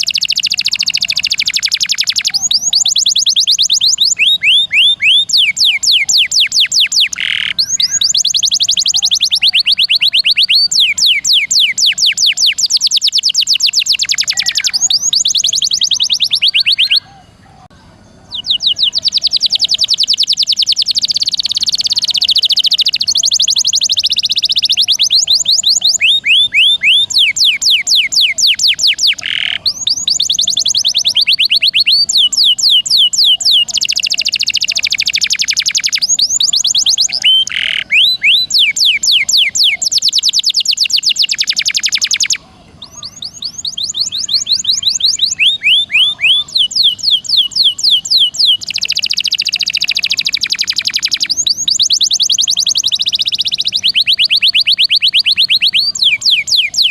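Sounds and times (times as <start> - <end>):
canary singing rapid trills: 0.0 - 56.9.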